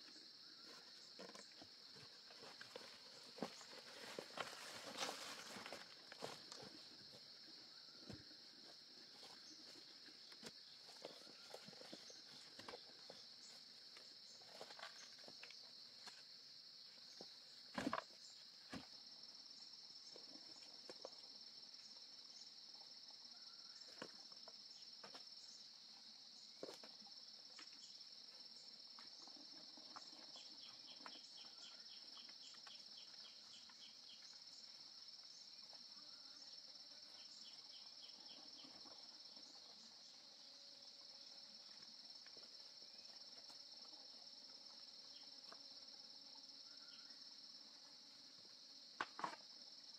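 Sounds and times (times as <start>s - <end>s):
insects droning: 0.0s - 49.9s.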